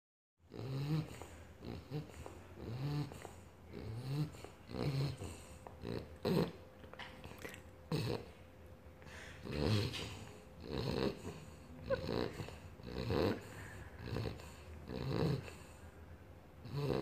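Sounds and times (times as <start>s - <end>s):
puppy snoring: 0.4s - 15.9s, 16.6s - 17.0s
puppy snorts: 0.5s - 8.4s, 9.1s - 15.8s, 16.6s - 17.0s.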